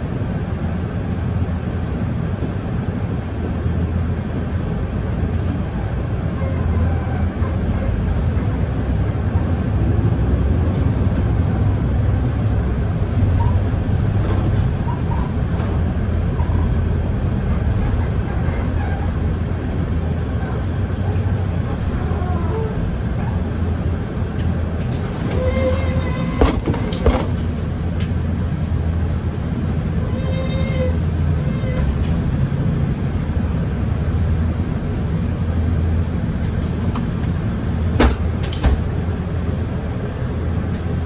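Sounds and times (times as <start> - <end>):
bus diesel engine rumbling: 0.0 - 41.0.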